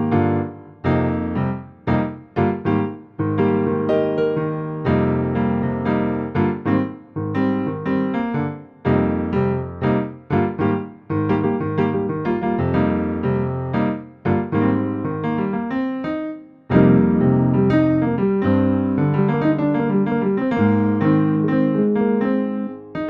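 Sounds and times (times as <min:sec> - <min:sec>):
piano playing chords and notes: 0:00.0 - 0:23.0.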